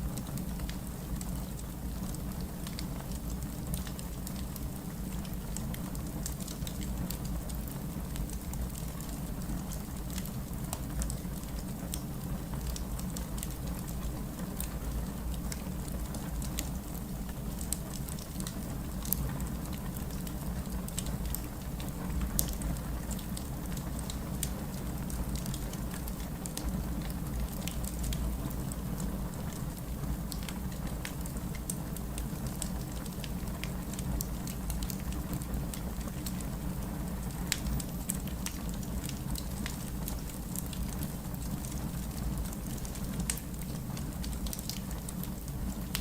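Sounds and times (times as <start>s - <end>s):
steady rain: 0.0s - 46.0s
wood fire crackling: 0.1s - 46.0s.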